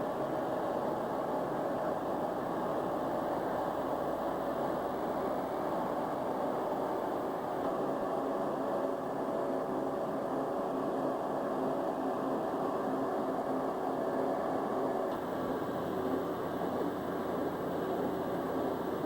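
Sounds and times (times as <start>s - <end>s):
faint steady tones: 0.0s - 19.0s
steady mechanical drone: 0.0s - 19.0s.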